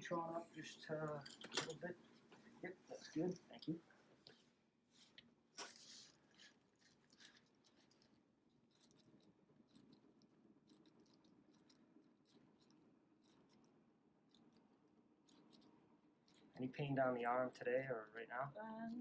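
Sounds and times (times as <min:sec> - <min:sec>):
soft handling noises: 0:00.2 - 0:18.1.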